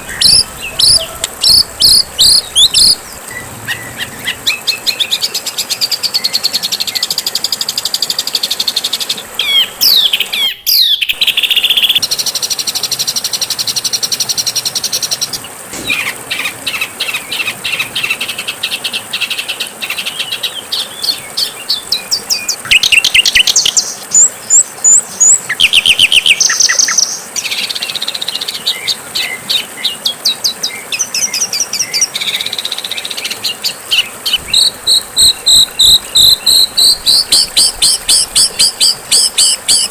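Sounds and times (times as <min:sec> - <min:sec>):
songbirds chirping and trilling: 0:00.0 - 0:12.0, 0:14.5 - 0:39.9.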